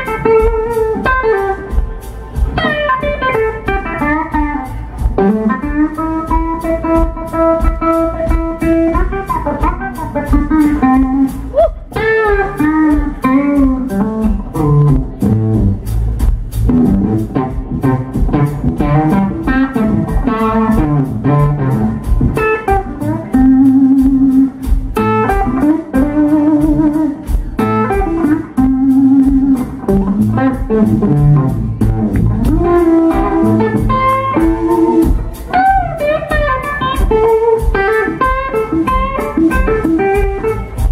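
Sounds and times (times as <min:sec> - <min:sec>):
electric guitar solo: 0:00.0 - 0:15.7, 0:16.7 - 0:40.9
bass guitar: 0:00.0 - 0:40.9
drums: 0:00.0 - 0:40.9.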